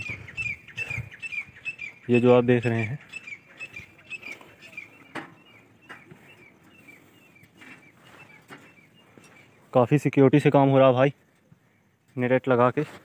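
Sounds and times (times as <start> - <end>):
birds chirping: 0.0 - 12.8.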